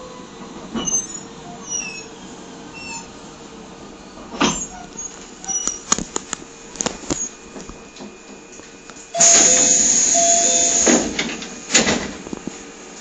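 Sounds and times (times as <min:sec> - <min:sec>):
electric train running noise: 0:00.0 - 0:13.0.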